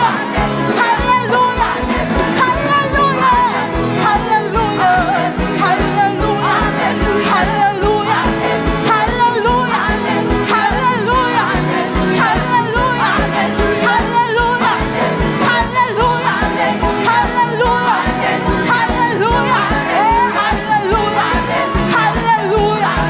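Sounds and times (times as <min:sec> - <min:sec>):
band with driving drum beat: 0:00.0 - 0:23.0
people singing: 0:00.0 - 0:23.0.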